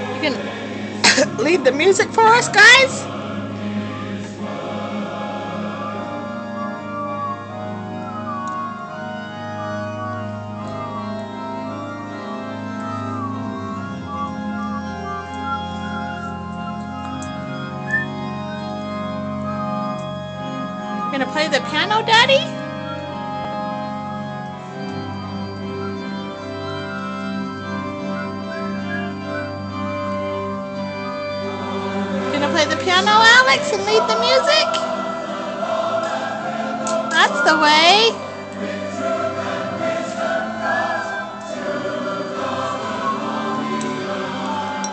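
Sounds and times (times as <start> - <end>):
electronic organ chords: 0.0 - 44.9.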